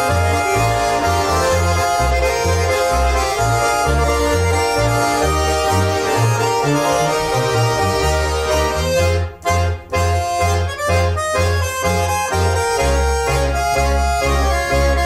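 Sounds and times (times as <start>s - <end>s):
button accordions playing folk music: 0.0s - 15.0s
double bass notes: 0.0s - 15.0s.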